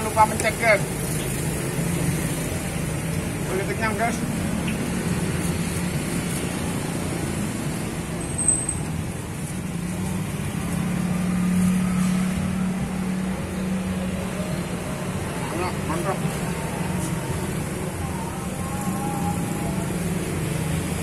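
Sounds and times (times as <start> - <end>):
traffic engine hum: 0.0 - 21.0.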